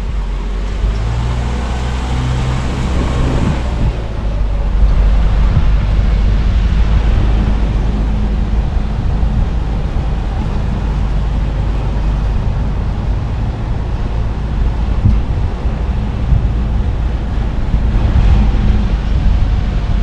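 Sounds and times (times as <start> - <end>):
car engine and tyre rumble: 0.0 - 20.0
road hiss: 0.0 - 20.0.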